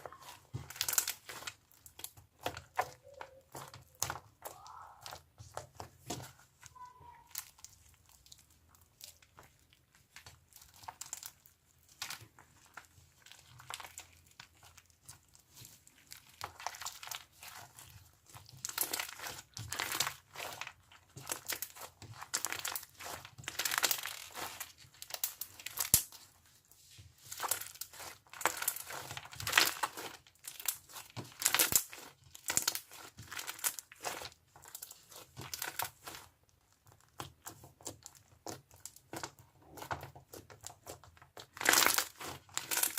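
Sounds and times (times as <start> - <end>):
slime crackling and popping: 0.0 - 42.9.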